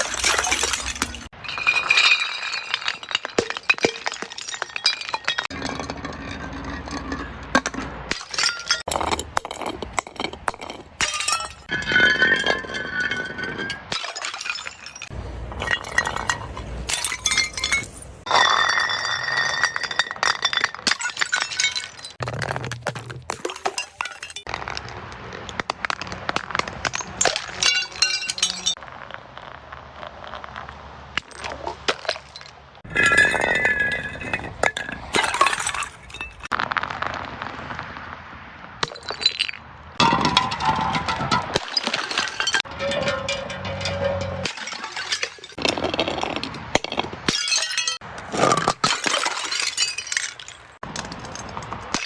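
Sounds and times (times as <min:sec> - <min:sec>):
glass shards clinking: 0:00.0 - 0:07.4, 0:08.1 - 0:24.5, 0:26.8 - 0:28.8, 0:31.4 - 0:36.5, 0:39.1 - 0:46.4, 0:47.3 - 0:52.0
glass bottles breaking: 0:00.0 - 0:24.5, 0:25.6 - 0:28.8, 0:31.2 - 0:36.6, 0:38.8 - 0:52.0.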